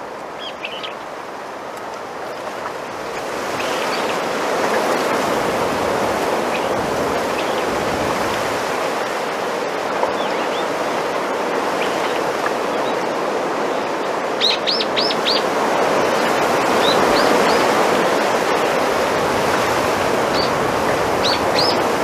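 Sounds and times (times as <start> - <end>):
wind rustling bamboo leaves: 0.0 - 22.0.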